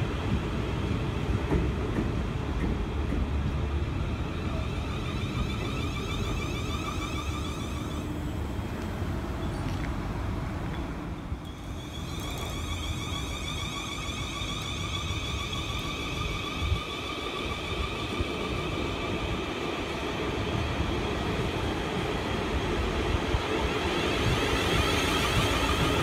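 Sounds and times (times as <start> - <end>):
electronic whine of electric train: 0.0 - 26.0
rumble of wheels on rail: 0.0 - 26.0.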